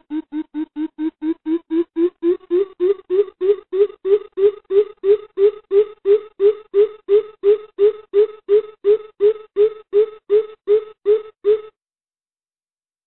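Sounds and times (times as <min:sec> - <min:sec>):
bird deep hooting call: 0:00.0 - 0:11.7.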